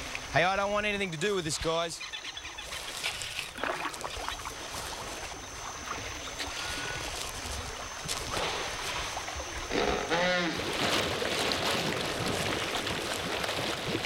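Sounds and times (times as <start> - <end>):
water splashing around canoe: 2.5 - 14.0.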